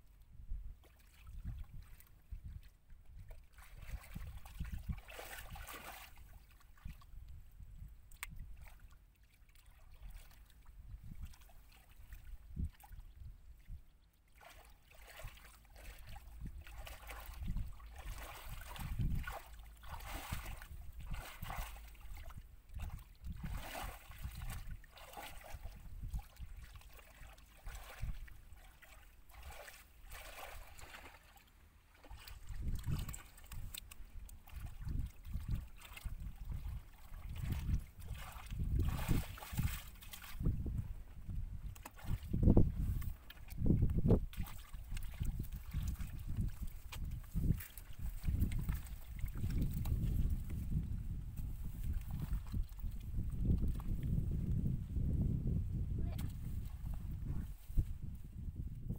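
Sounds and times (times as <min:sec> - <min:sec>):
splashing in muddy water: 0:00.8 - 0:07.2, 0:08.0 - 0:54.7.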